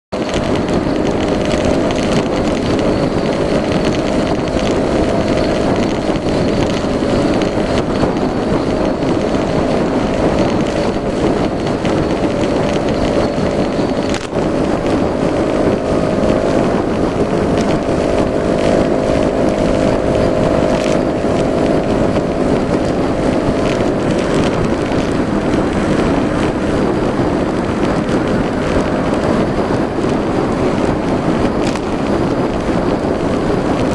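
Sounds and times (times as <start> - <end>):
scooter engine running: 0.1 - 33.9.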